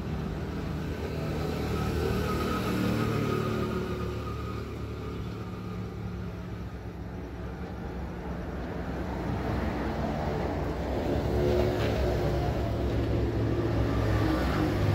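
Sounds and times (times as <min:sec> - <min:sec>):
vehicle engine rumble: 0:00.0 - 0:14.9.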